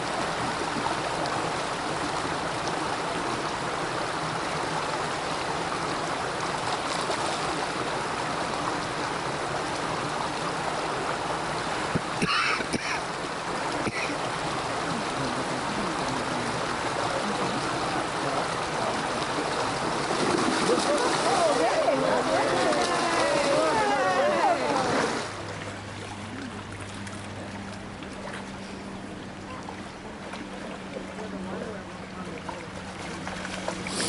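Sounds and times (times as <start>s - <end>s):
creek water rushing over log: 0.0s - 34.0s.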